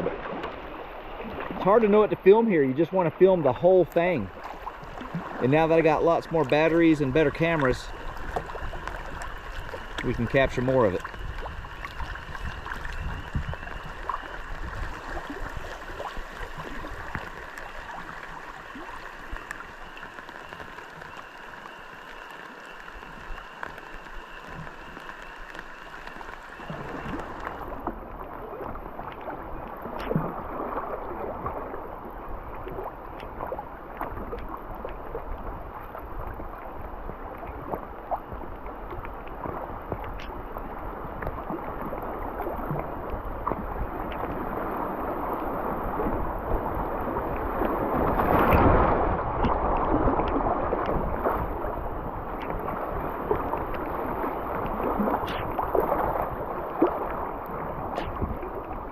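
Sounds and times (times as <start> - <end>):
river water rippling and gurgling: 0.0 - 58.9
small water splashes: 0.0 - 58.9.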